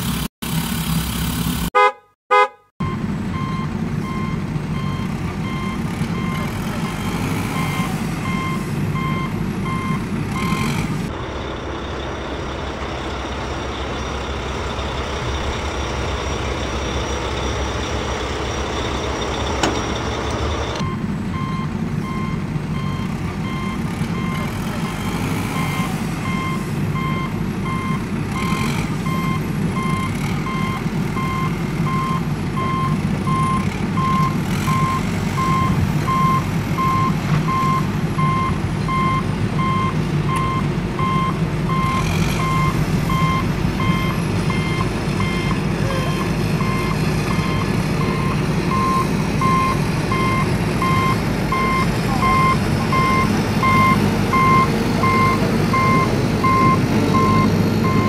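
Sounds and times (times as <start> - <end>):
heavy vehicle engine running: 0.0 - 1.8, 2.8 - 58.0
reversing alarm beeping: 2.8 - 10.8, 13.2 - 58.0.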